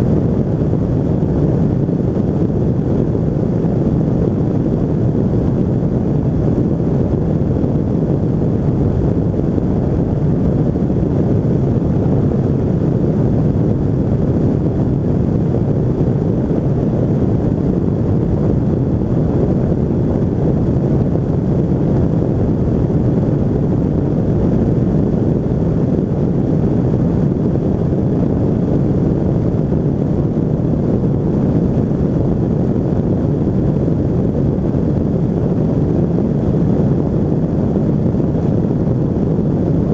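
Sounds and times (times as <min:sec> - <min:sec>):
microlight engine and propeller: 0:00.0 - 0:39.9
wind rush on microphone: 0:00.0 - 0:39.9.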